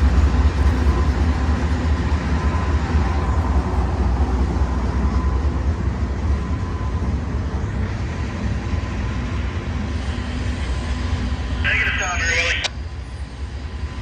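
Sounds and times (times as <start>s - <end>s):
freight train rolling past: 0.0s - 11.6s, 12.8s - 14.0s.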